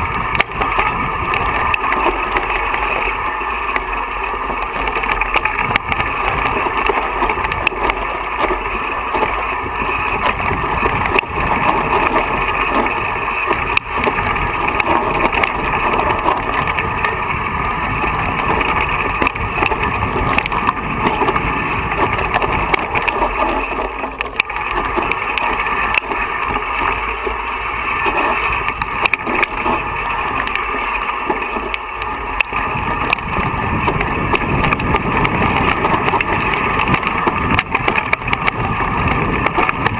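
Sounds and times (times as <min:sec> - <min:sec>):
bike rattling over stones: 0:00.0 - 0:39.9
bike tyre and wind rush: 0:00.0 - 0:39.9.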